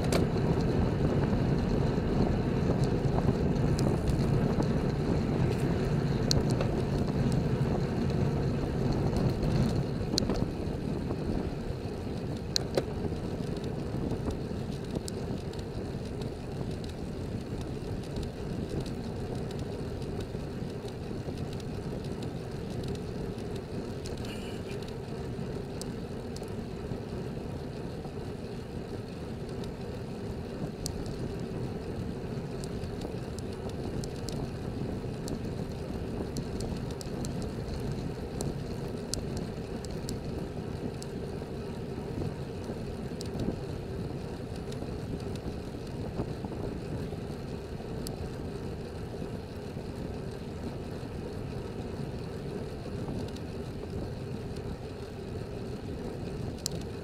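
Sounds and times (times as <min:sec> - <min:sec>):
bicycle tyre noise: 0:00.0 - 0:57.0
wind rushing over microphone: 0:00.0 - 0:57.0.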